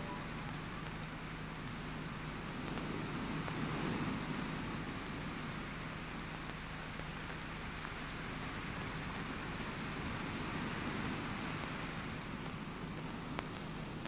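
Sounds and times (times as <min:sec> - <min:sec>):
faint ticks: 0:00.0 - 0:09.4, 0:10.9 - 0:14.0
faint low hum: 0:00.0 - 0:14.0
film soundtrack hiss: 0:00.0 - 0:14.0.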